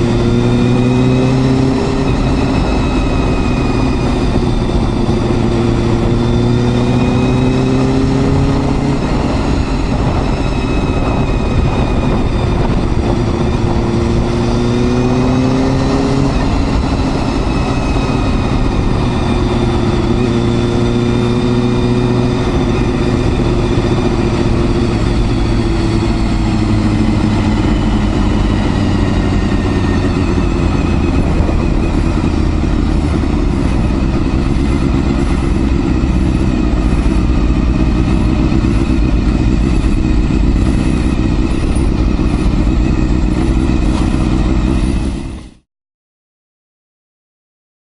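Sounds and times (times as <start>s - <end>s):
motorcycle engine running: 0.0s - 45.6s
wind noise: 0.0s - 45.6s.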